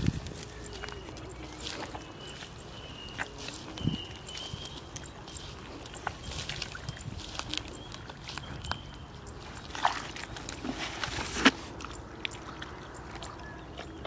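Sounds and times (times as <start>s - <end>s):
splashing in muddy water: 0.0s - 14.0s.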